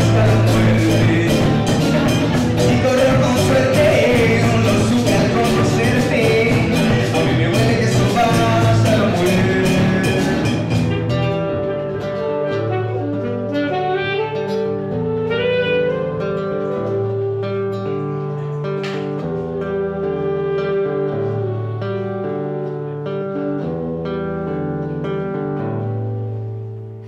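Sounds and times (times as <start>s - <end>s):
saxophone: 0.0s - 24.7s
plucked acoustic guitar: 0.0s - 27.0s.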